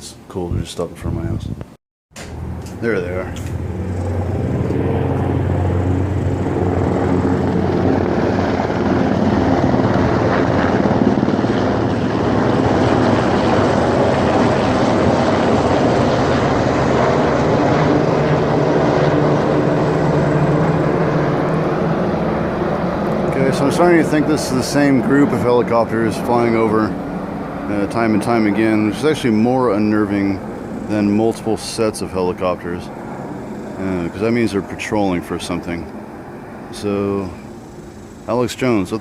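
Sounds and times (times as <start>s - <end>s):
helicopters passing overhead: 2.2s - 39.0s.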